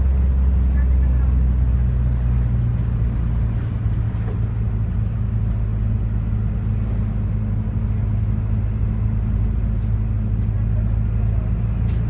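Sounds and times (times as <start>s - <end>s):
bus engine drone: 0.0s - 12.0s
road rumble: 0.0s - 12.0s.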